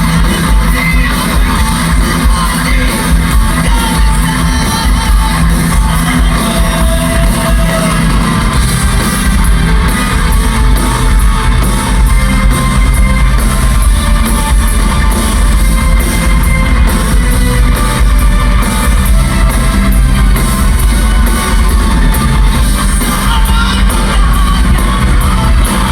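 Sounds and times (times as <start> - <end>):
rock band playing: 0.0 - 25.9.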